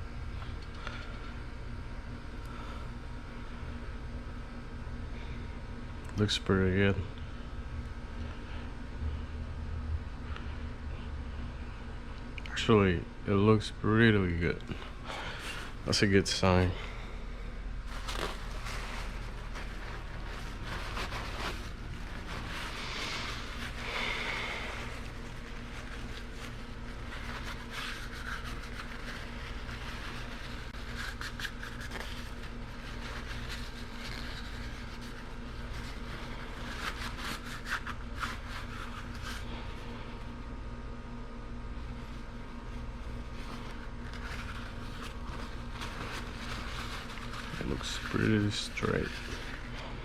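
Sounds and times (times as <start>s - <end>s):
low background hum: 0.0s - 50.0s.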